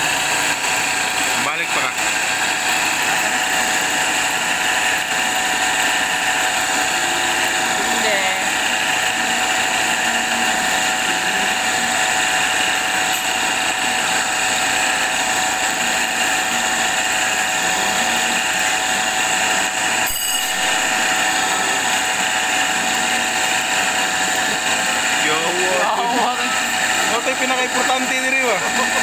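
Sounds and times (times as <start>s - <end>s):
grinding machine whining: 0.0s - 29.0s.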